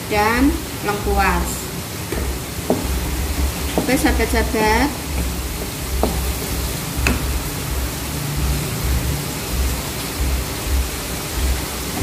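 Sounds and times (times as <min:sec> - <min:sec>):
paste sizzling in a wok: 0:00.3 - 0:12.0.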